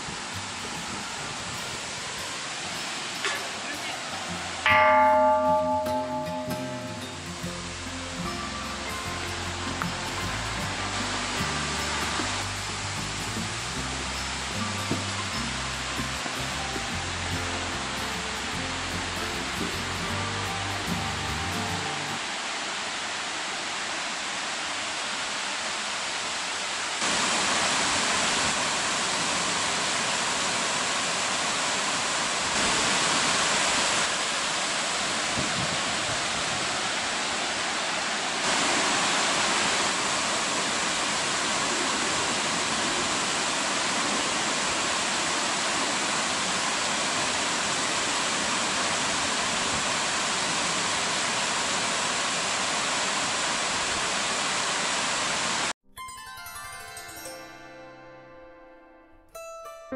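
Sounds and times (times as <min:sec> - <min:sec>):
rush of flowing water: 0:00.0 - 0:55.8.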